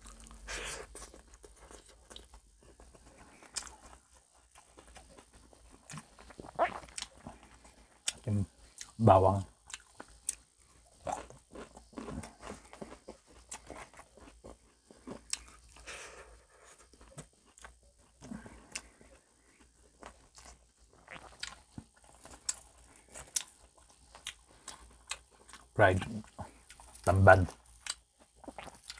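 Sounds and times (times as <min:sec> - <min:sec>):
chewing crunchy fried food: 0:00.0 - 0:28.9.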